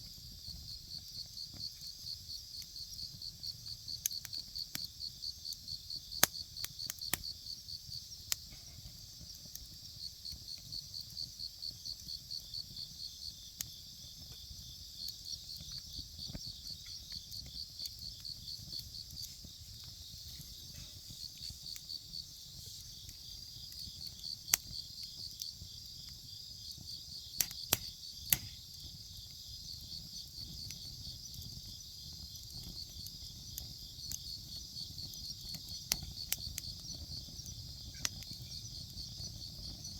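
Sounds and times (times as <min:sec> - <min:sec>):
bonfire popping and crackling: 0:00.0 - 0:39.9
insects chirping: 0:00.0 - 0:39.9.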